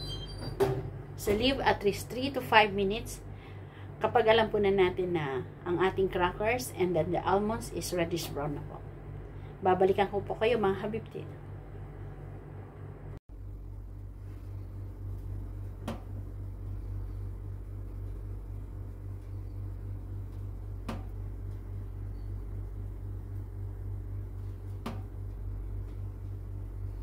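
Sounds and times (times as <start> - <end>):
oven humming: 0.0 - 27.0.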